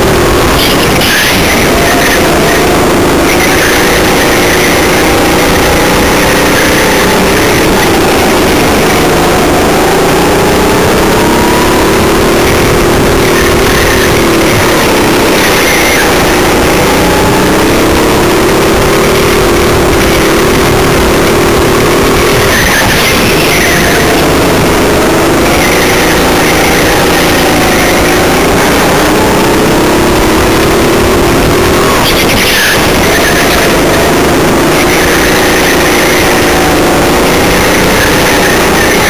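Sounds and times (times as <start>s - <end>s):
go-kart engine: 0.0s - 39.0s.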